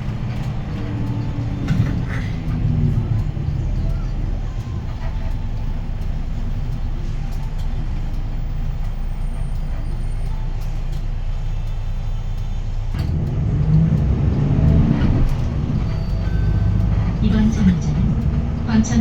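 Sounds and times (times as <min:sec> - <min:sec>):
bus diesel engine rumble: 0:00.0 - 0:19.0.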